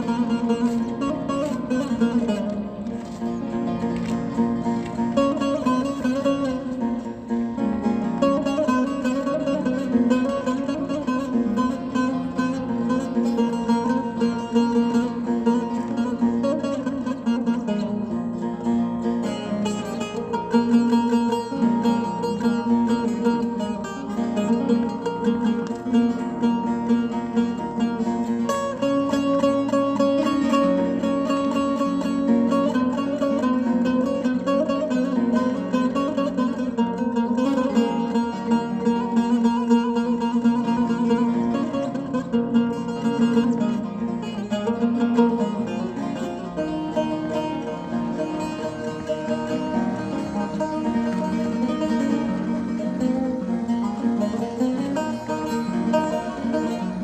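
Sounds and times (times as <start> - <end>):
lute plucked folk melody: 0.0 - 57.0.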